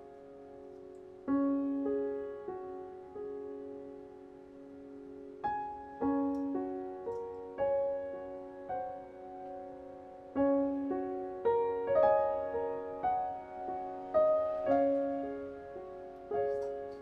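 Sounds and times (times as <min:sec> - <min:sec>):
gentle solo piano music: 0:00.0 - 0:17.0.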